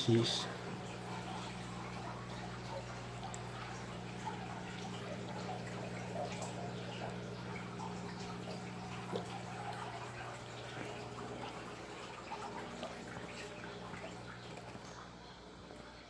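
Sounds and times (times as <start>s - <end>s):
low electrical hum: 0.0s - 16.0s
water dripping and trickling: 0.0s - 16.0s.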